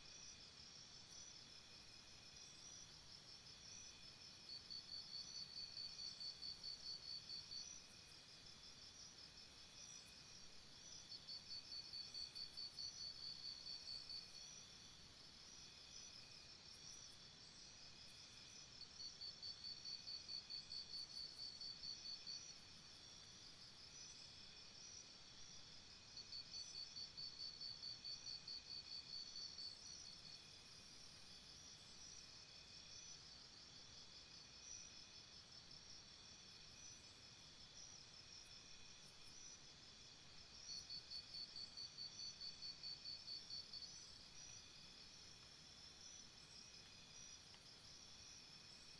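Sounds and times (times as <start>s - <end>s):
chorus of insects: 0.0s - 48.9s.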